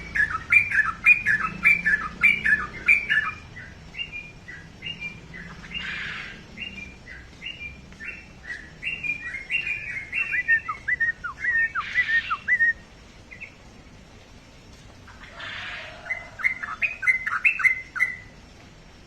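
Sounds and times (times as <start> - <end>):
bulbul singing: 0.0 - 14.1, 15.0 - 18.5.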